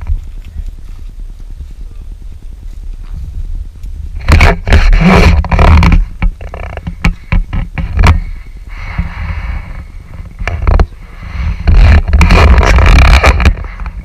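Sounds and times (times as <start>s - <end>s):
microphone rumble and scraping: 0.0s - 14.0s.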